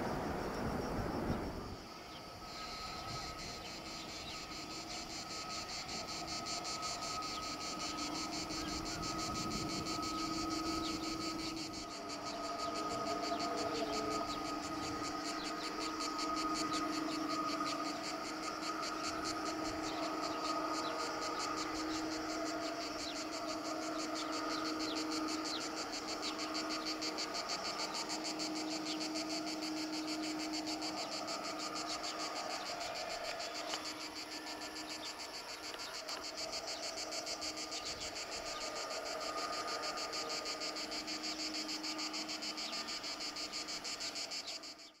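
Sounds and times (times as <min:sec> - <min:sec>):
faint jet engine hum: 0:00.0 - 0:44.9
insects buzzing: 0:00.0 - 0:45.0.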